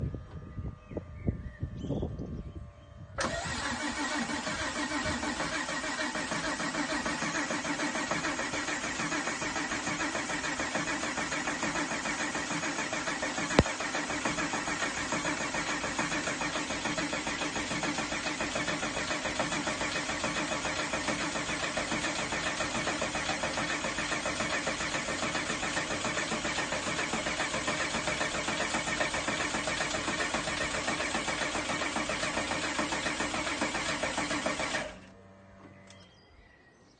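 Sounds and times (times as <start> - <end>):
car engine starting and idling: 3.2 - 36.0.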